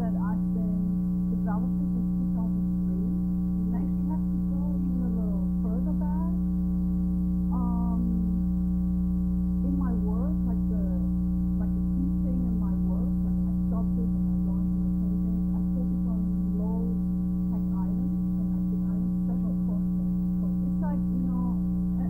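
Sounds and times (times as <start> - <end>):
loud steady hum: 0.0 - 22.0.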